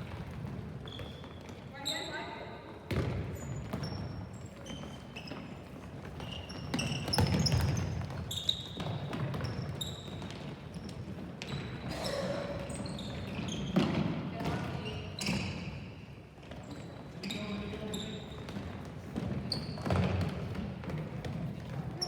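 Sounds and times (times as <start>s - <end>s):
shoes squeaking on floor: 0.0s - 22.0s.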